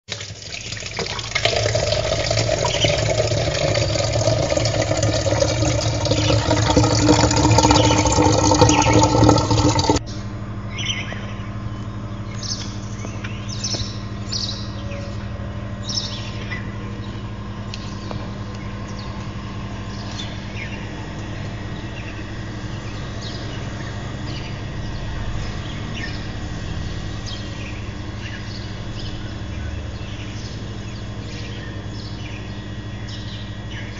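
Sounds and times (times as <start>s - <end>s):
steady low hum: 0.6s - 33.9s
birds chirping: 0.8s - 33.9s.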